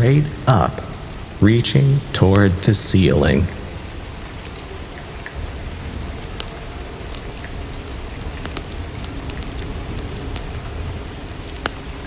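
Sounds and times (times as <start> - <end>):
rain hiss: 0.0 - 12.0
raindrops ticking and pattering: 0.0 - 12.0.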